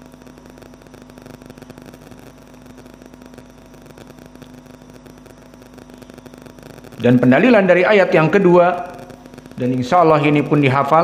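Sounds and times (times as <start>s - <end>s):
constant low tone: 0.0s - 10.8s
background hum and hiss: 0.0s - 11.0s.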